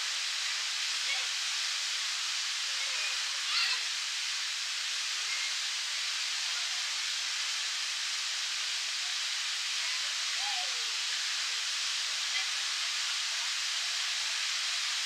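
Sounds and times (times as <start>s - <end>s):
fountain splashing into pond: 0.0s - 15.0s.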